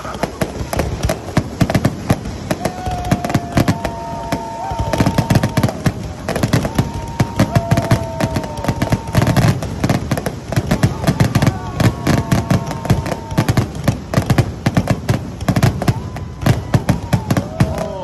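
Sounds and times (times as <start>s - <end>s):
fireworks bangs and crackles: 0.0s - 18.0s
fireworks whistling: 0.0s - 18.0s.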